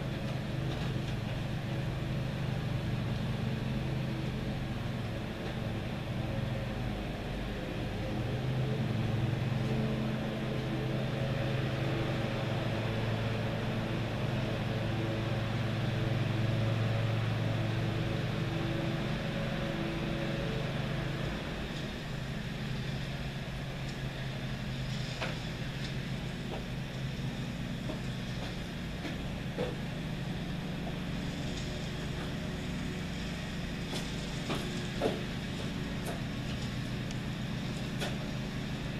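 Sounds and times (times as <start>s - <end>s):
engine humming steadily: 0.0s - 38.9s.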